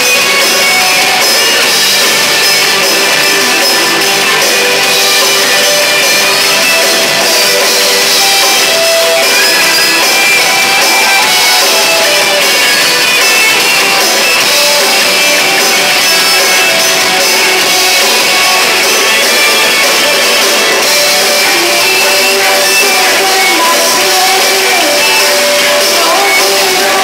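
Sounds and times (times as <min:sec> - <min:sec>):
drum kit: 0:00.0 - 0:27.0
electric guitars strummed: 0:00.0 - 0:27.0
live rock band playing: 0:00.0 - 0:27.0.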